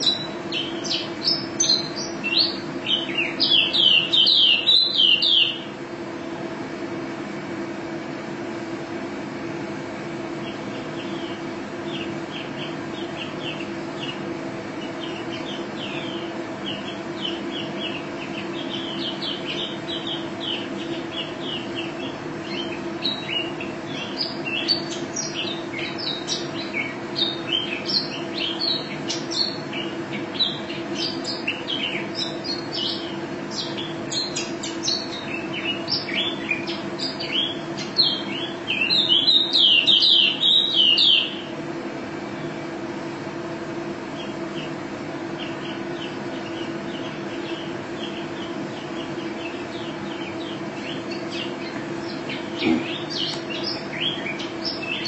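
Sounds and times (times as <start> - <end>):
bird chirping and trilling: 0.0 - 5.8, 10.3 - 41.6, 44.1 - 55.0
steady low hum: 0.0 - 55.0.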